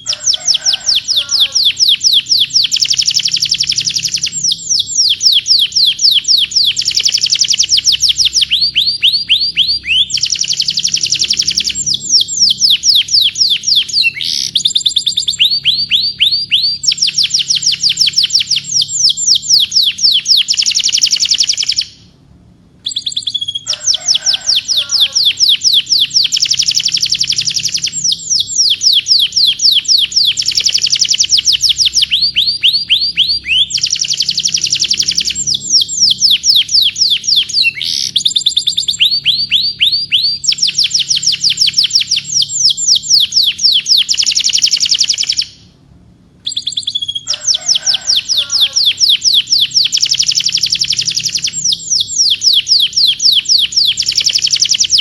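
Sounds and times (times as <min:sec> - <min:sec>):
canary singing trills: 0:00.0 - 0:22.2, 0:22.8 - 0:45.7, 0:46.4 - 0:55.0.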